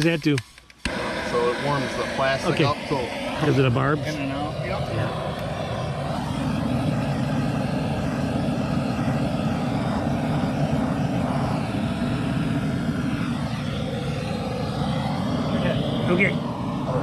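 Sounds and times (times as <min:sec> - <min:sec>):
diesel engine droning: 0:00.9 - 0:17.0.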